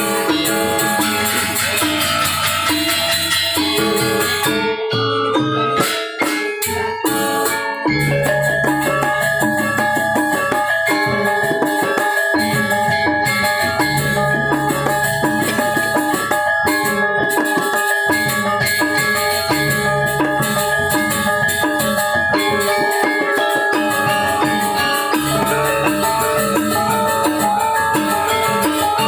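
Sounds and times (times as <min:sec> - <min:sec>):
gamelan ensemble playing: 0:00.0 - 0:29.0.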